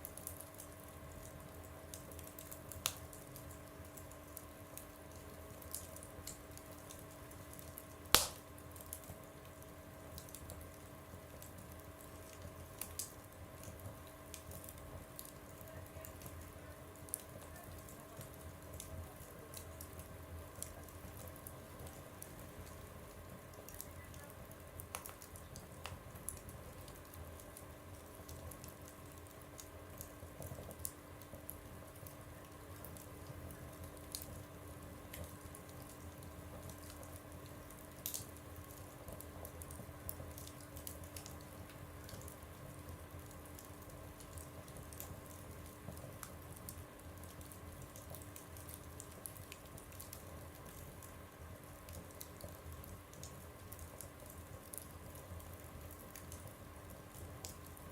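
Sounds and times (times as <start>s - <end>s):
faint steady hum: 0.0s - 57.9s
wood fire crackling in stove: 0.0s - 57.9s.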